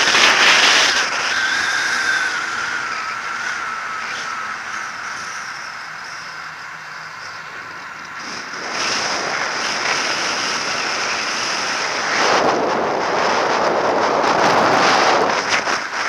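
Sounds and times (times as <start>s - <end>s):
wind rushing over camera: 0.0s - 16.0s.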